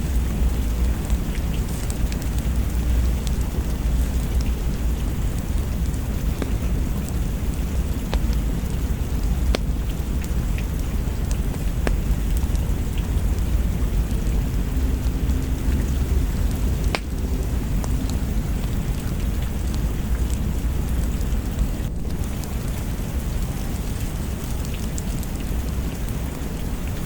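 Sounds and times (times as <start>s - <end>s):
heavy rain: 0.0s - 27.0s
thunder rumble: 0.0s - 27.0s.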